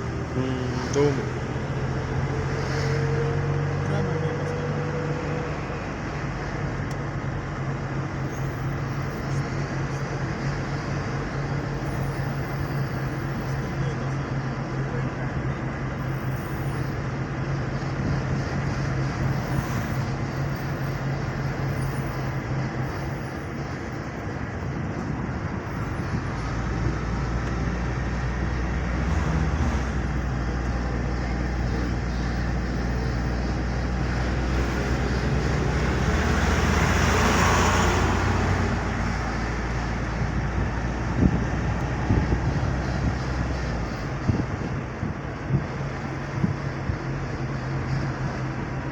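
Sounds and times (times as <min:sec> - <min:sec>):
engine hum: 0:00.0 - 0:48.9
road noise rushing: 0:00.0 - 0:48.9.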